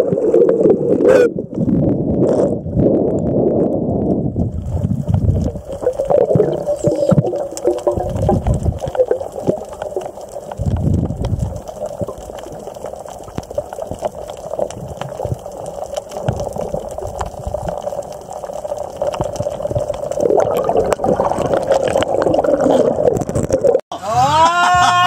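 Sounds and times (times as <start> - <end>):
water gurgling and sloshing: 0.0 - 23.8.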